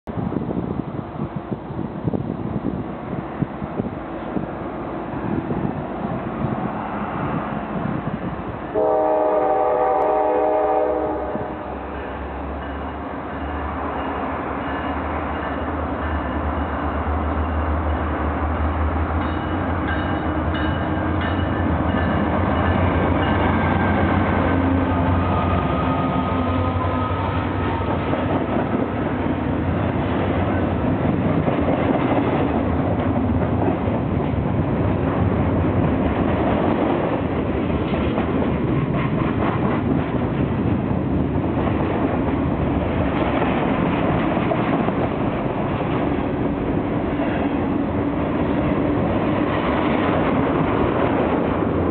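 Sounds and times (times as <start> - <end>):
freight cars rumbling: 0.1 - 8.8, 11.4 - 51.9.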